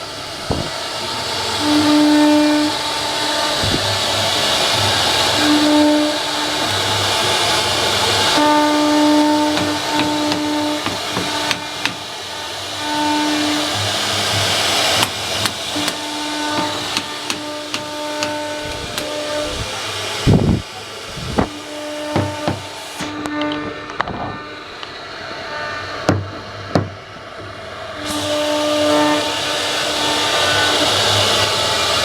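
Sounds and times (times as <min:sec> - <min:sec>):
humming tones: 0:00.0 - 0:32.0
router bit hissing in wood: 0:00.0 - 0:32.0.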